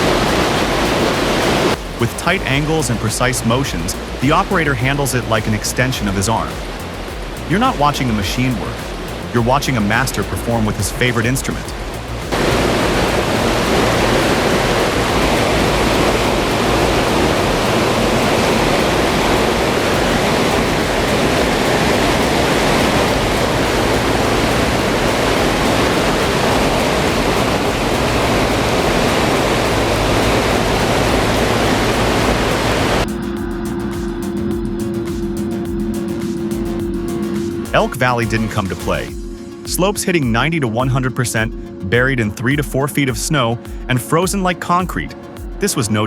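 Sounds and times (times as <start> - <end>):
diesel engine running: 0.0 - 39.6
loud rushing noise: 0.0 - 45.7.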